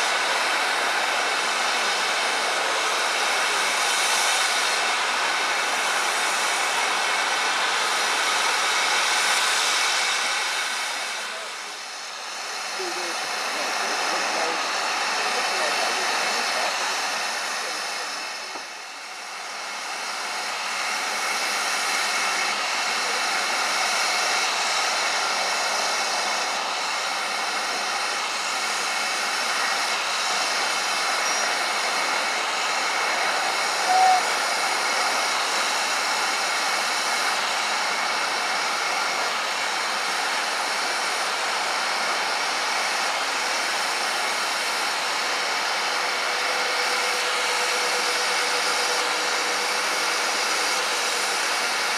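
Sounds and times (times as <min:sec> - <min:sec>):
steam hissing from locomotive: 0:00.0 - 0:51.9.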